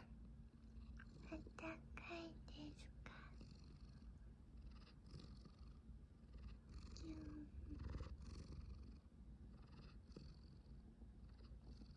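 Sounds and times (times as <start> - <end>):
cat purring: 0.0 - 11.9.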